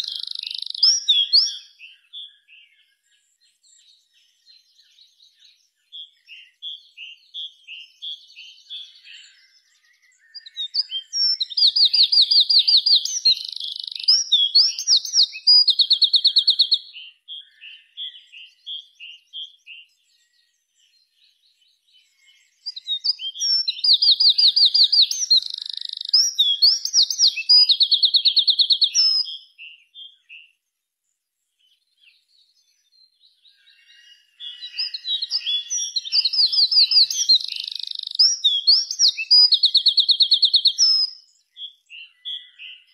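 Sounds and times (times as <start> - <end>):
wren singing: 0.0 - 30.7, 31.4 - 42.9.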